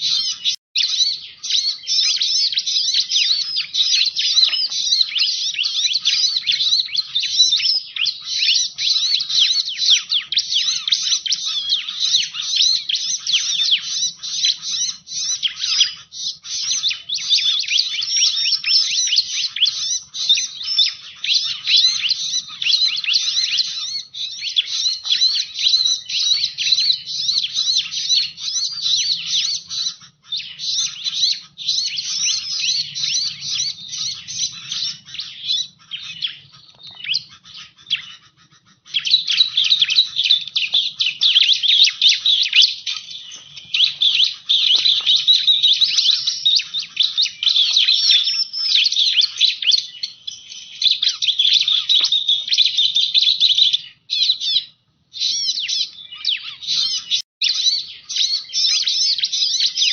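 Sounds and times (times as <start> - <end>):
rapid high bird chirps: 0.0 - 59.9.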